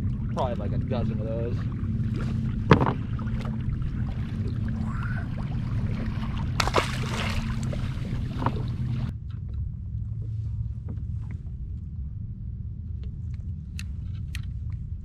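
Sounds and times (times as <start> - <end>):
wind and water on hull: 0.0 - 15.0.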